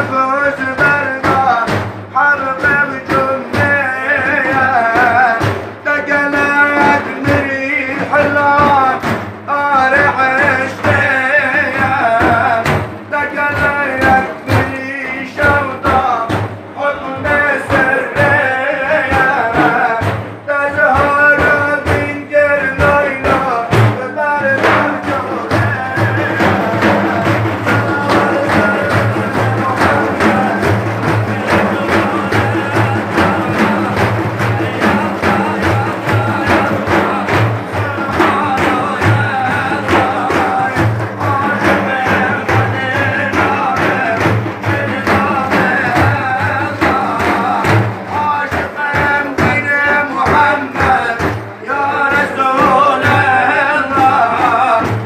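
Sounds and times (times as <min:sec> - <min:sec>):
man singing a hymn: 0:00.0 - 0:55.0
steady drum beats: 0:00.0 - 0:55.0.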